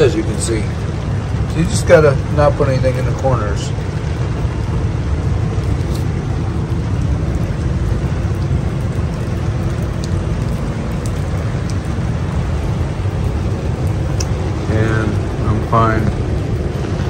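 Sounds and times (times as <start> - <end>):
rain falling on tent: 0.0 - 17.0
water drips ticking: 0.0 - 17.0.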